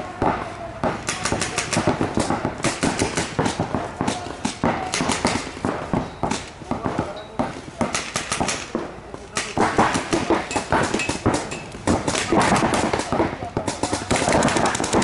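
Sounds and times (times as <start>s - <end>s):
paintball markers firing: 0.2s - 15.0s.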